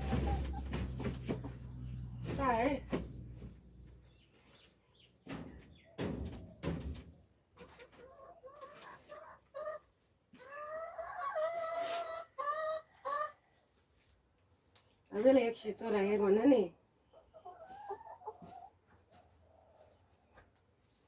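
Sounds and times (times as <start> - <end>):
hen clucking: 0.0 - 6.6, 7.2 - 13.7, 15.4 - 20.5.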